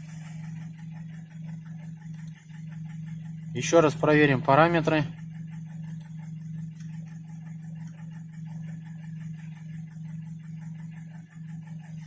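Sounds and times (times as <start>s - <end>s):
fast even engine ticking: 0.0s - 12.0s
petrol engine idling: 0.0s - 12.0s.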